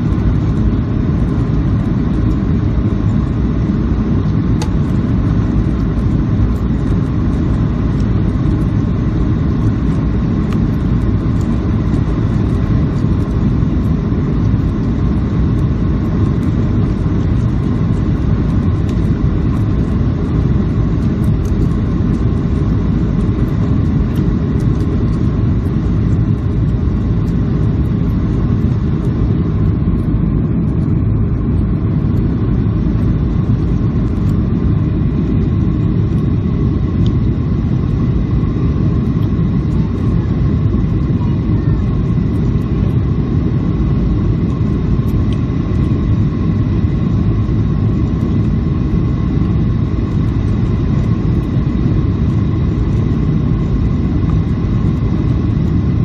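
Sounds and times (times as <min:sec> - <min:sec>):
airplane cabin rumble: 0:00.0 - 0:56.0
faint steady whine: 0:00.0 - 0:56.0.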